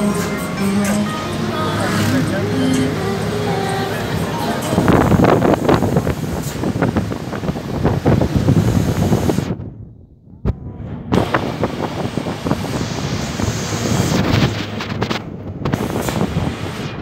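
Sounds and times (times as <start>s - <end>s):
road and engine noise: 0.0s - 9.6s, 10.9s - 17.0s
wind buffeting microphone: 1.5s - 17.0s.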